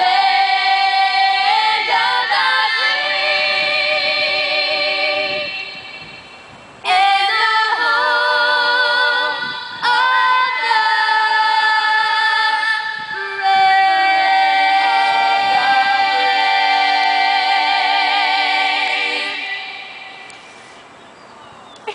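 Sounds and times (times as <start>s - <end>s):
girls singing a cappella in harmony: 0.0s - 20.6s.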